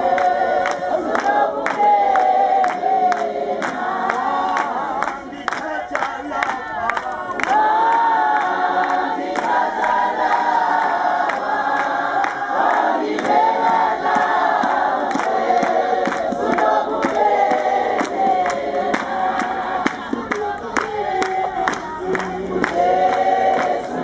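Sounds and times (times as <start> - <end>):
crowd singing without instruments: 0.0 - 24.0
rhythmic hand-clapping: 0.0 - 24.0.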